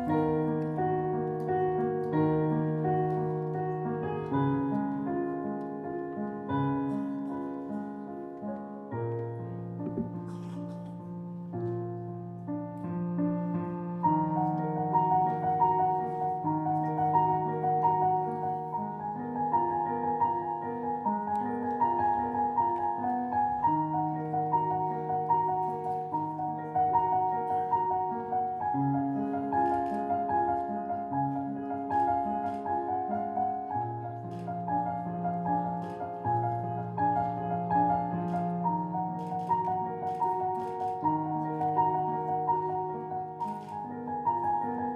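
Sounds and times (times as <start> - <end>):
solo piano playing: 0.0 - 44.9.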